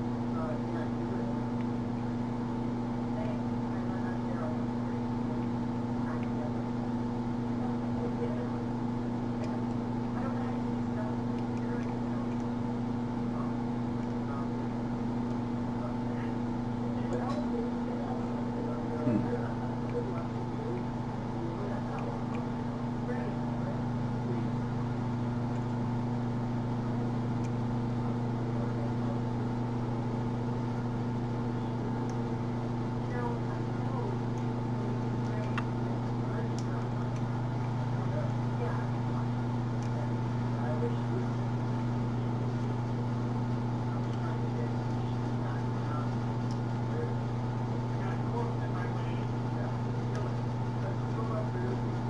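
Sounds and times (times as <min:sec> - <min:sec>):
steady motor hum: 0:00.0 - 0:52.0.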